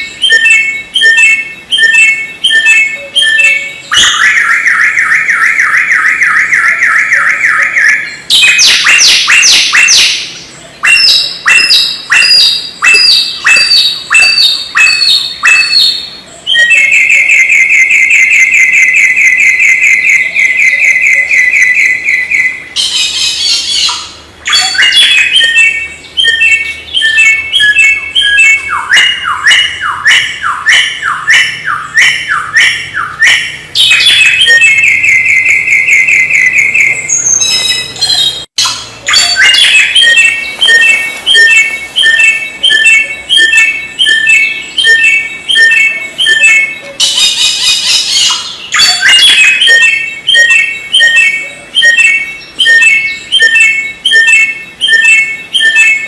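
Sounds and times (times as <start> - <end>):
bird singing trills and whistles: 0.0 - 56.0.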